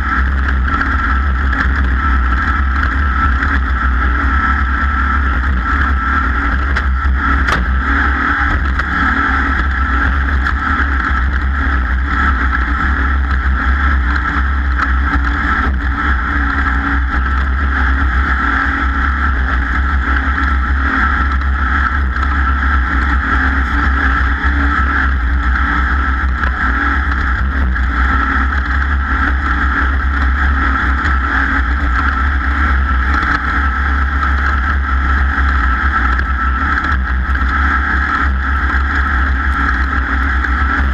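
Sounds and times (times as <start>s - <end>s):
powerboat engine running: 0.0s - 40.9s.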